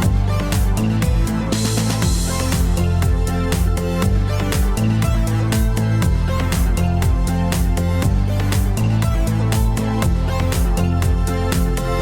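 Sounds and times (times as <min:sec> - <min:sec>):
synthwave music: 0:00.0 - 0:12.0.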